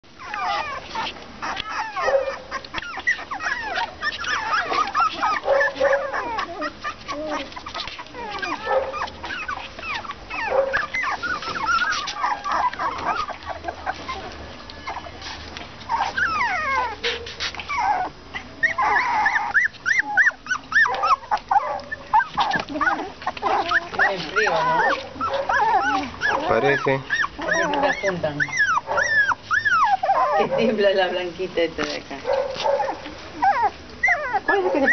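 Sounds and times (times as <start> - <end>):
puppies whimpering and whining: 0.1 - 34.9
puppies yelping: 0.1 - 34.9.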